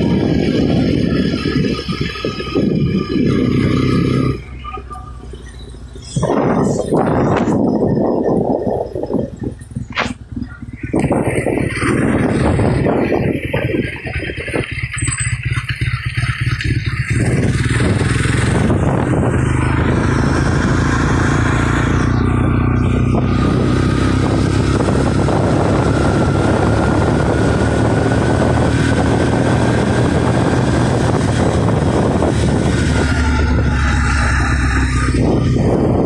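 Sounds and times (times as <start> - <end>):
wind rushing over microphone: 0.0 - 4.6, 6.0 - 36.0
motorcycle engine running: 0.0 - 36.0.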